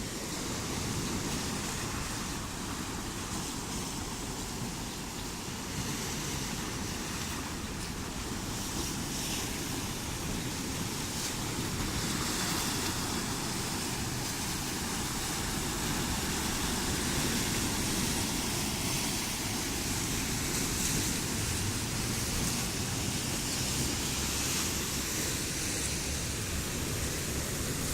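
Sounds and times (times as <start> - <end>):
sea surf: 0.0 - 27.9
wind on microphone: 0.0 - 27.9.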